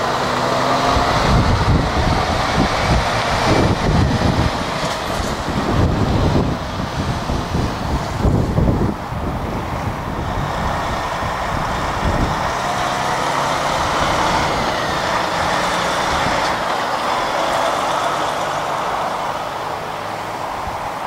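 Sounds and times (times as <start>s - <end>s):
lorry diesel engine running: 0.0s - 21.0s
wind buffeting microphone: 0.0s - 21.0s.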